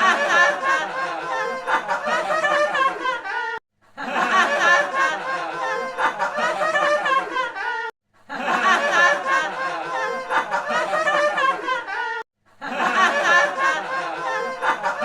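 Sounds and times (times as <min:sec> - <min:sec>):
high giggling laughter: 0:00.0 - 0:15.0.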